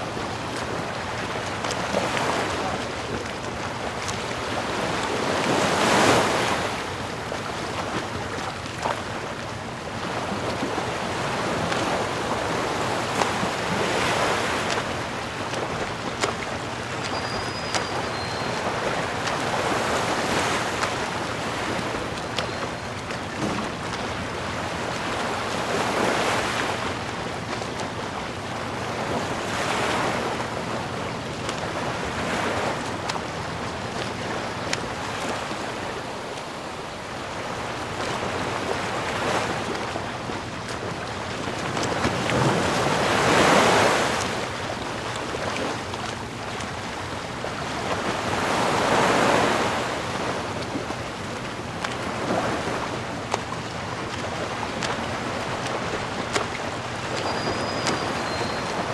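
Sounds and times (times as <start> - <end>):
sea waves surging: 0.0 - 58.9.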